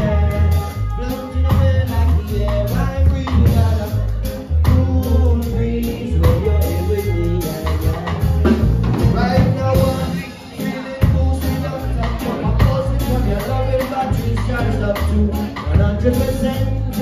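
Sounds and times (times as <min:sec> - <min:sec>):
live band playing upbeat song: 0:00.0 - 0:17.0
person singing: 0:00.0 - 0:17.0.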